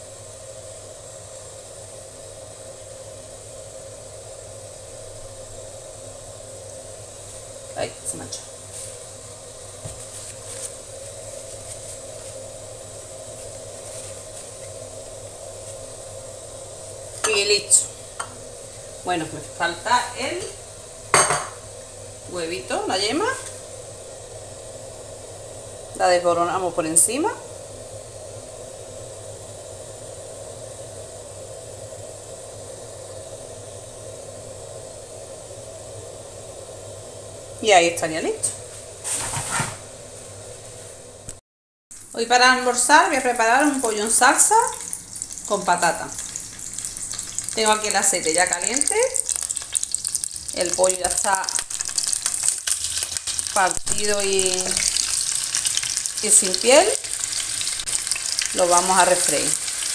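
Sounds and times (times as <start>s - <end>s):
appliance humming and hissing: 0.0s - 59.9s.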